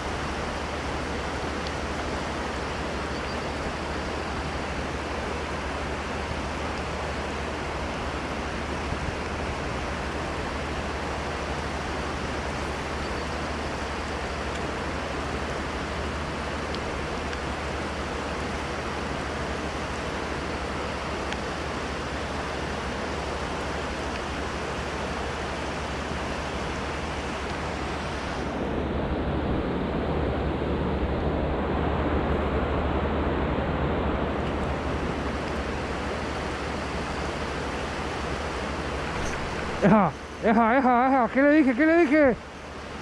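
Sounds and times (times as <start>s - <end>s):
river water rushing: 0.0s - 28.7s, 34.4s - 43.0s.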